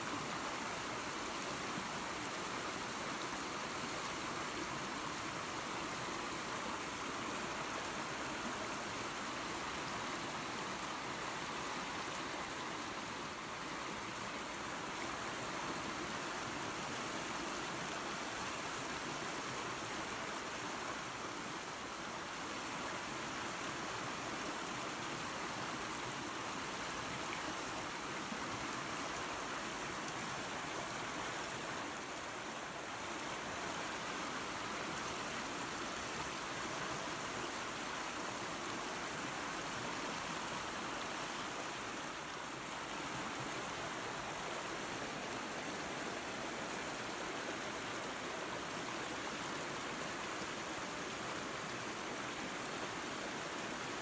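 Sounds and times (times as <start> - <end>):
waterfall and creek rushing: 0.0 - 54.0.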